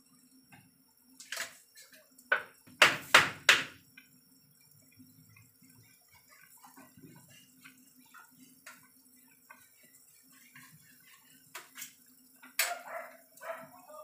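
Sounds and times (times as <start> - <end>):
soup bubbling in a pot: 0.0 - 13.5.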